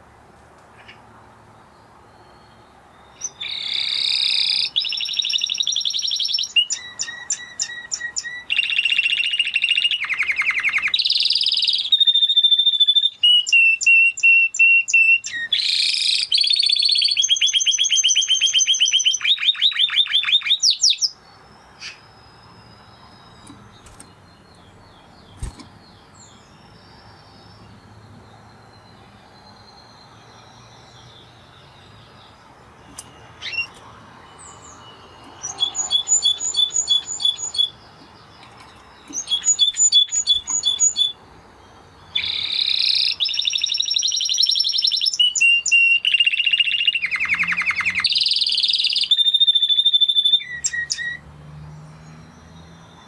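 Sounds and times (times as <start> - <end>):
canary singing: 1.8 - 53.0.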